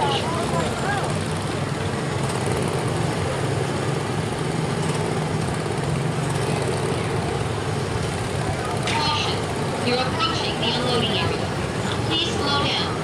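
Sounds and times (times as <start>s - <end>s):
small gasoline engines droning: 0.0s - 13.0s.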